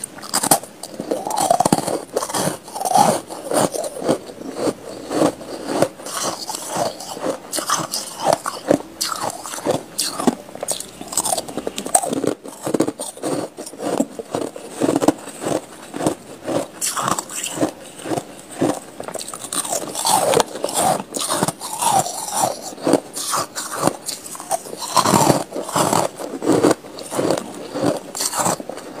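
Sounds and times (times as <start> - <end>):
chewing crunchy ice: 0.0 - 29.0.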